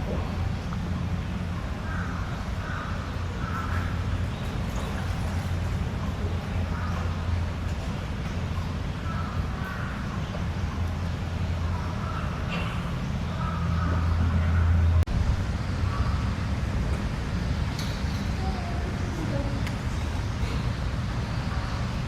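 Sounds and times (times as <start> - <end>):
faint murmur: 0.0 - 22.0.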